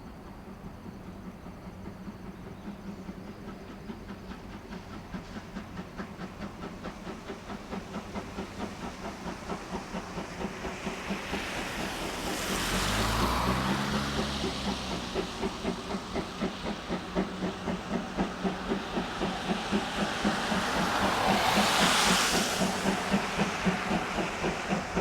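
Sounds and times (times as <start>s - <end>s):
steam hissing: 0.0s - 25.0s
steam locomotive chuffing: 0.0s - 25.0s.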